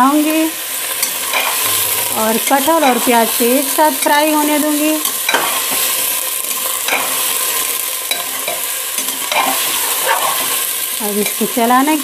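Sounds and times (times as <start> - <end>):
vegetables sizzling in oil: 0.0 - 12.0
metal spatula scraping pot: 1.0 - 11.4.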